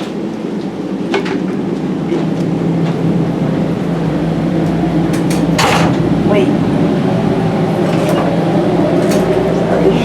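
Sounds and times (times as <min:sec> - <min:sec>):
train car mechanical hum: 0:00.0 - 0:10.0.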